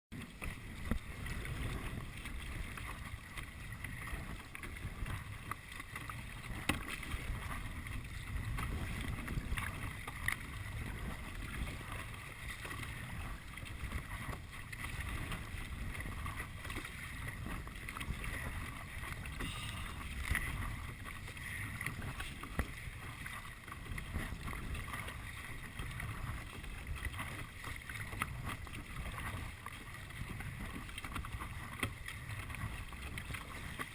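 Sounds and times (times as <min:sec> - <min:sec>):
paddles splashing in water: 0:00.1 - 0:33.9
wind on microphone: 0:00.3 - 0:33.9.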